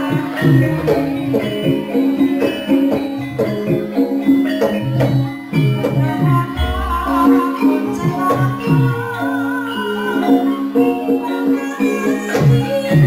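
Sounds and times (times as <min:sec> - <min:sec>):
gamelan ensemble playing: 0:00.0 - 0:13.0.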